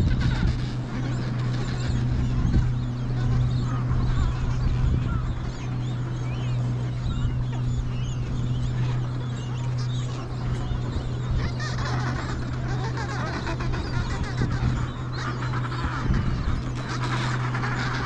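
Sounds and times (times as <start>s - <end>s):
low hum: 0.0s - 18.0s
low rumble: 0.0s - 18.0s
penguins calling: 0.0s - 18.0s.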